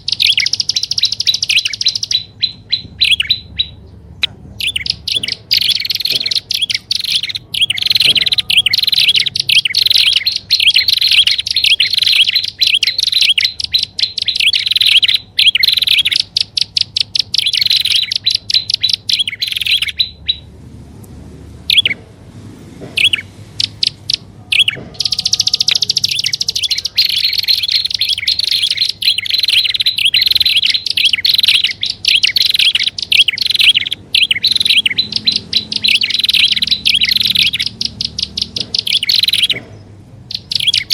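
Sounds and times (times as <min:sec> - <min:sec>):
birds chirping trills: 0:00.0 - 0:40.9.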